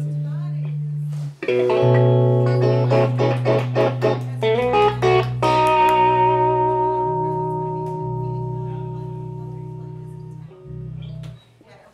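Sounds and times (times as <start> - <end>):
electric guitar chords and notes: 0.0 - 11.4
held low bass note: 0.0 - 11.4.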